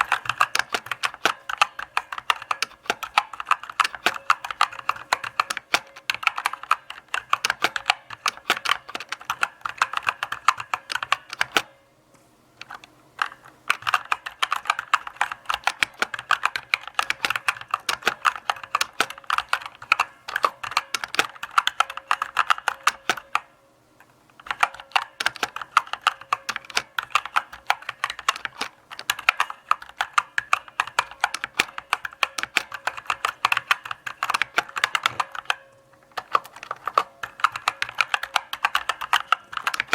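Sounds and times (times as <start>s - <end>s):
mechanical keyboard key clicks: 0.0s - 11.8s, 12.6s - 23.5s, 24.4s - 39.9s.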